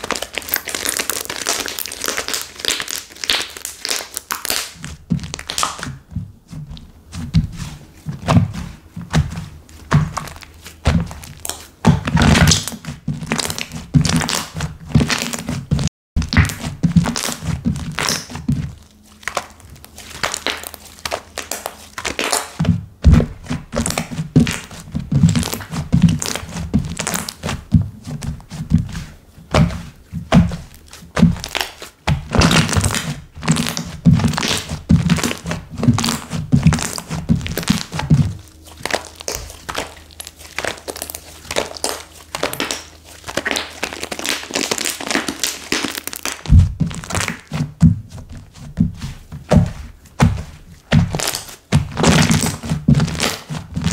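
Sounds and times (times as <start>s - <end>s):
slime squishing with thick pops: 0.0s - 53.9s.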